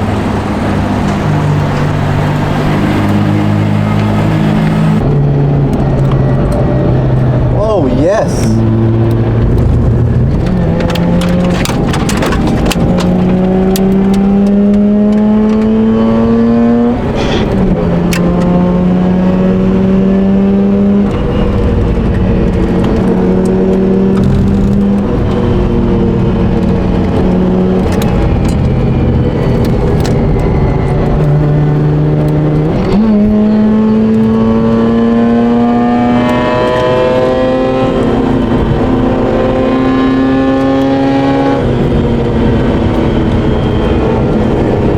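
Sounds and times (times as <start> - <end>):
rotary engine revving: 0.0 - 7.8, 8.4 - 44.9.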